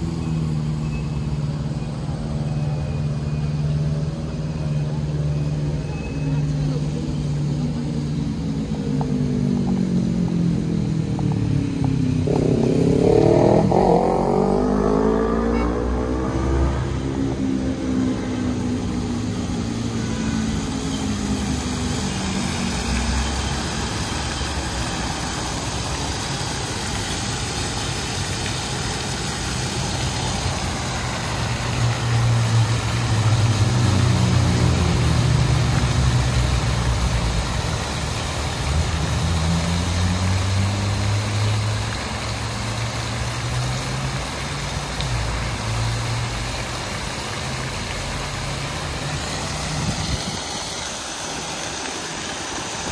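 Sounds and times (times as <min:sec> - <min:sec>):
fountain jets splashing: 0:00.0 - 0:52.9
street traffic: 0:00.0 - 0:52.9
vehicle engines passing: 0:00.0 - 0:52.9.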